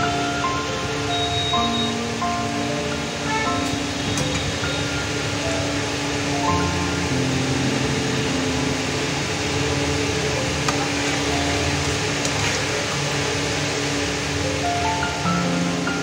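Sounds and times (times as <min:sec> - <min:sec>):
background music with held notes: 0:00.0 - 0:12.4, 0:13.1 - 0:16.0
hot oil sizzling: 0:00.1 - 0:16.0.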